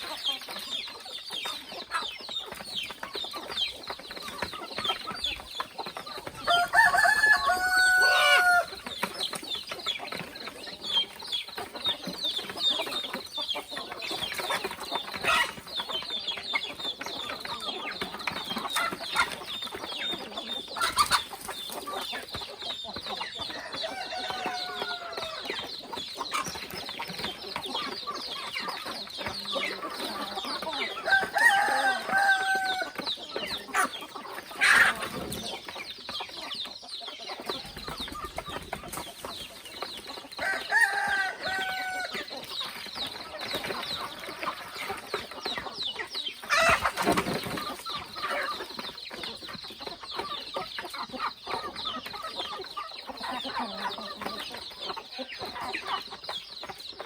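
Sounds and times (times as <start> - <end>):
chicken drawn-out calls: 0.0 - 57.0
chickens clucking: 0.0 - 57.0.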